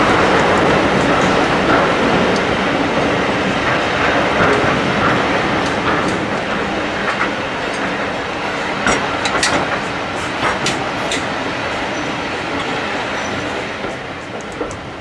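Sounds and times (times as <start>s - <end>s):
train carriages rumbling on track: 0.0s - 15.0s
wheels clacking over rail joints: 0.0s - 15.0s.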